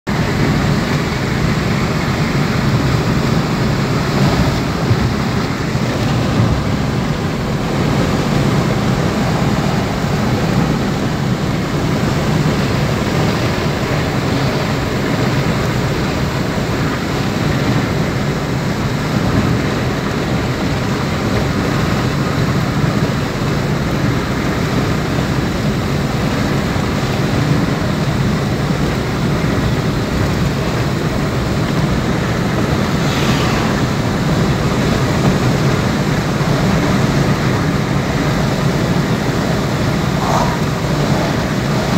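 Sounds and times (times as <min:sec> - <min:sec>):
road and tyre noise: 0:00.0 - 0:41.9
car engine running: 0:00.1 - 0:41.9.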